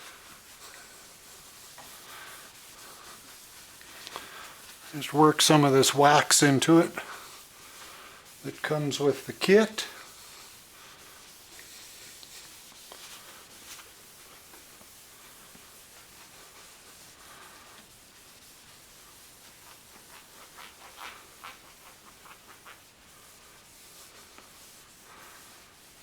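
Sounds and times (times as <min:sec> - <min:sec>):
cloth rubbing plastic: 0:00.0 - 0:26.0.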